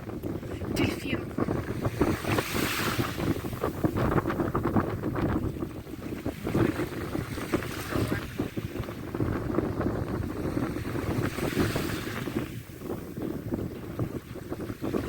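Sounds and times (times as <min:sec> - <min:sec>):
sea waves on shore: 0:00.0 - 0:15.0
wind buffeting microphone: 0:00.0 - 0:15.0.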